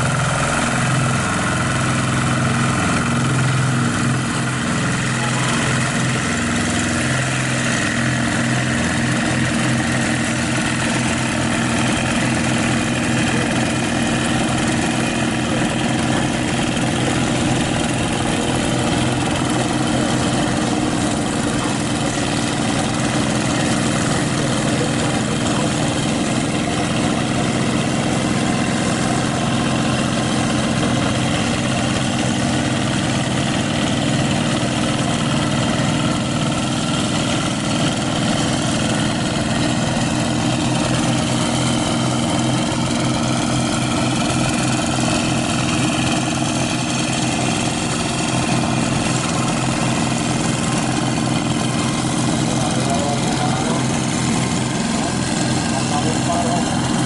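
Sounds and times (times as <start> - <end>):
diesel tractor engines pulsing: 0.0 - 57.0.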